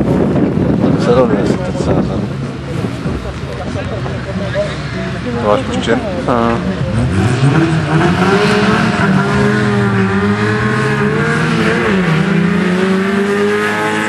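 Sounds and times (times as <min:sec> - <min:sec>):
car engine revving: 0:01.6 - 0:14.0.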